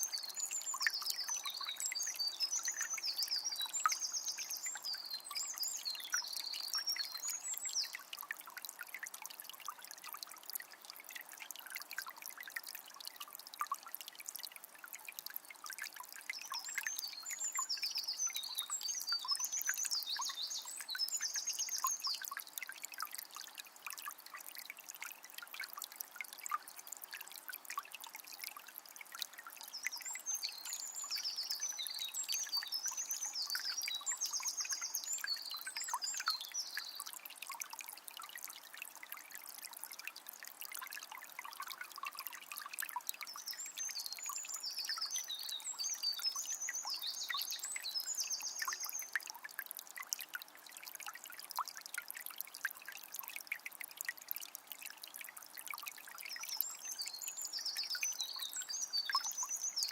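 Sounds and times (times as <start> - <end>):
spring water trickling: 0.0 - 59.9.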